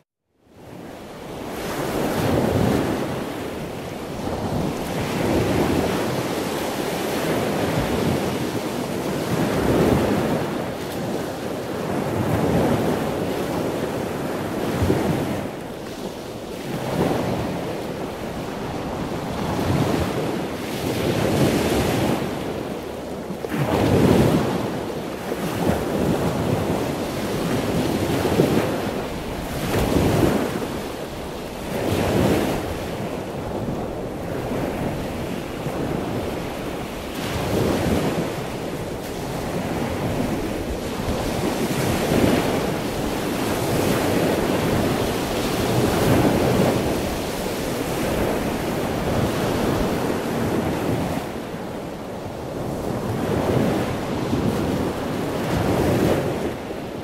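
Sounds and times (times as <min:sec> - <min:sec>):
waves washing in: 0:00.5 - 0:57.0
wind buffeting microphone: 0:00.6 - 0:57.0.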